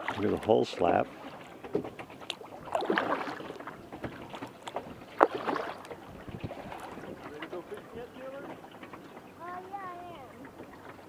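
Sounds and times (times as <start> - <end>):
paddle blades dipping into water: 0.0 - 11.0
water slapping against kayak hull: 0.0 - 11.0.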